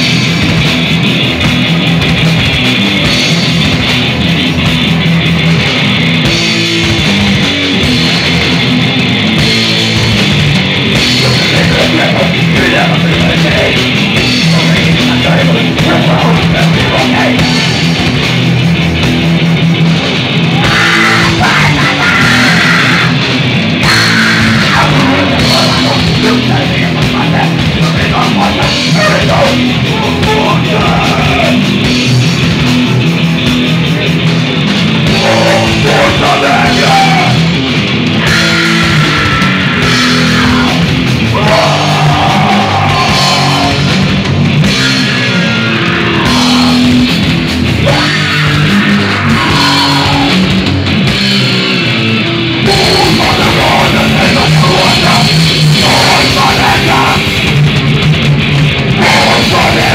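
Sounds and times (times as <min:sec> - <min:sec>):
distorted electric guitars: 0:00.0 - 0:59.9
drum kit playing: 0:00.0 - 0:59.9.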